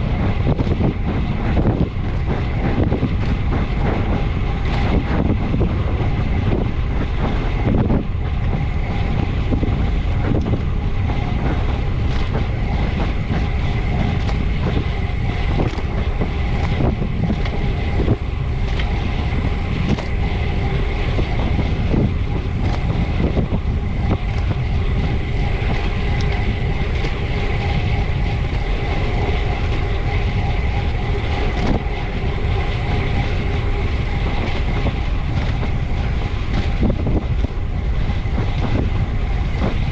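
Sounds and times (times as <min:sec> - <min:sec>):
hum of bicycle tyres and drivetrain: 0:00.0 - 0:39.9
wind buffeting microphone: 0:00.0 - 0:39.9.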